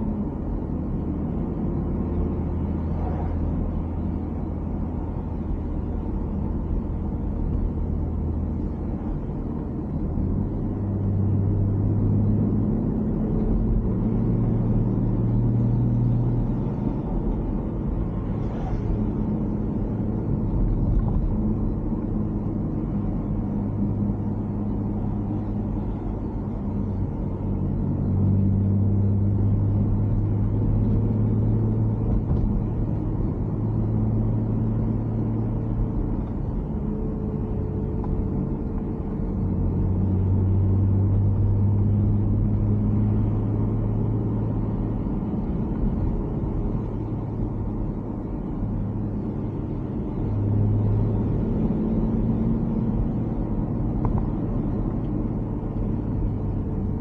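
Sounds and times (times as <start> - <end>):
car engine hum: 0.0 - 57.0
tyre and road rumble: 0.0 - 57.0.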